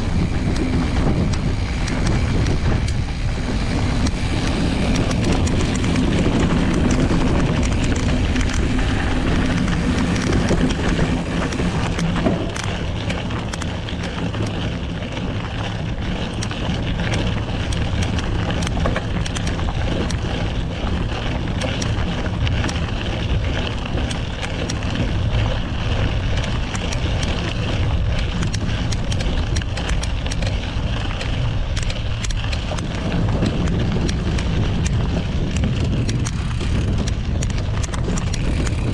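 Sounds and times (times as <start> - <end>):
small clicks and rattles: 0.0 - 38.9
tyre rumbling on gravel: 0.0 - 38.9
wind buffeting microphone: 0.0 - 38.9.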